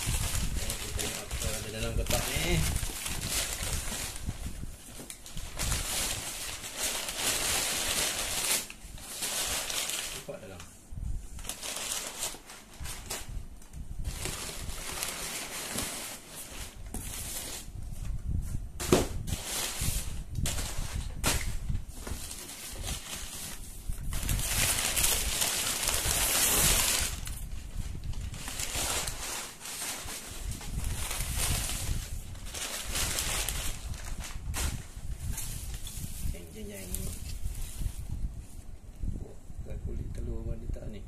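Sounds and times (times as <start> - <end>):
packing paper crinkling: 0.0 - 10.7, 11.4 - 17.7, 19.2 - 38.1
plastic wrap rustling: 0.0 - 39.2.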